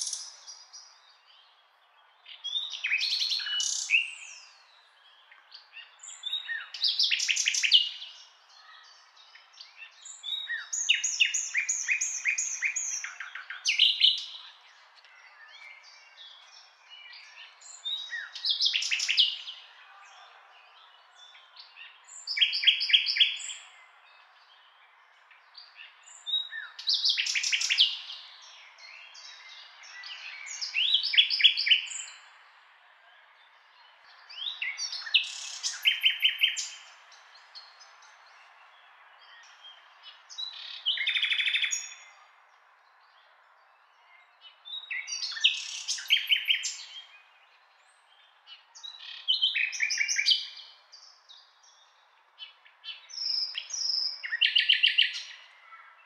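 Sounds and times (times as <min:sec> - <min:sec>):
birds singing high chirps: 0:00.0 - 0:56.0
faint outdoor background: 0:00.0 - 0:56.0.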